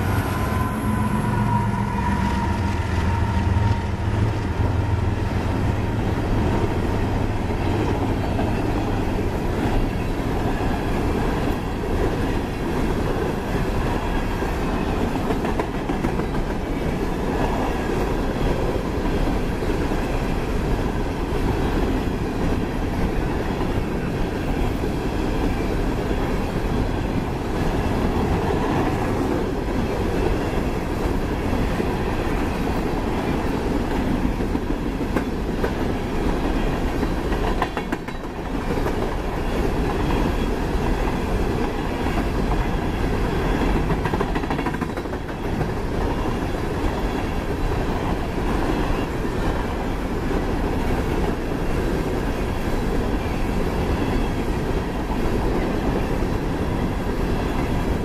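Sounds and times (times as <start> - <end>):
steel wheels rolling on rails: 0.0 - 58.0.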